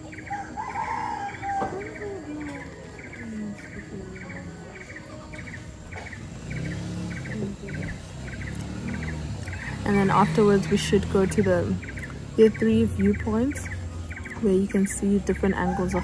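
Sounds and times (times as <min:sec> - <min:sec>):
rhythmic chirping: 0:01.2 - 0:16.0.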